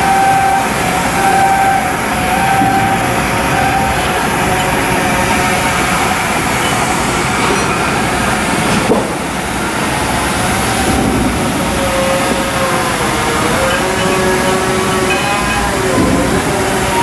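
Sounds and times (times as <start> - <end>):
loud mechanical rumble of shipyard work: 0.0 - 17.0.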